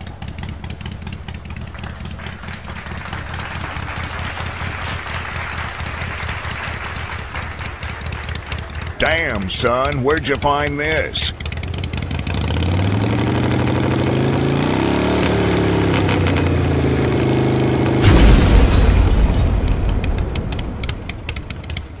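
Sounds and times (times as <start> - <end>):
scooter engine idling: 0.0 - 18.4, 20.1 - 22.0.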